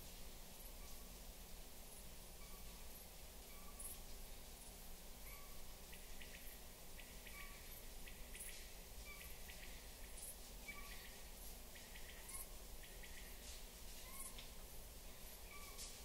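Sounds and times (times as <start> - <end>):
low steady background: 0.0 - 16.0.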